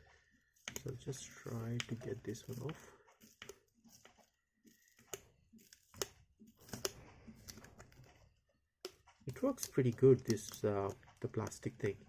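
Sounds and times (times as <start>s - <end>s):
plastic tool clicks and scrapes: 0.6s - 12.0s.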